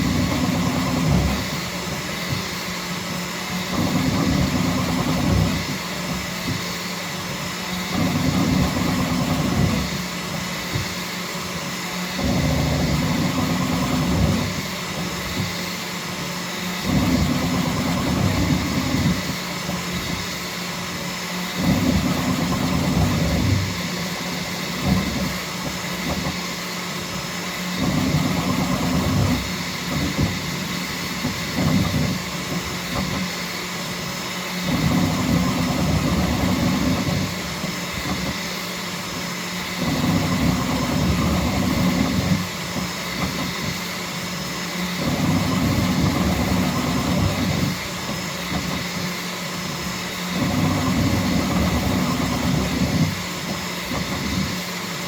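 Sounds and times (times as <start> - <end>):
stepper motors whirring: 0.0 - 55.0.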